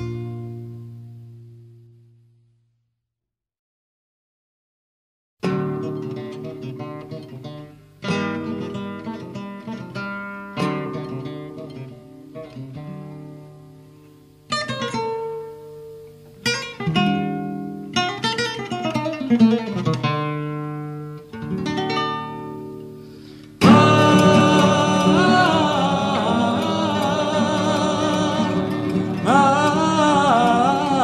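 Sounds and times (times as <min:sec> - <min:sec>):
acoustic guitar picking: 0:00.0 - 0:02.2, 0:05.4 - 0:31.0.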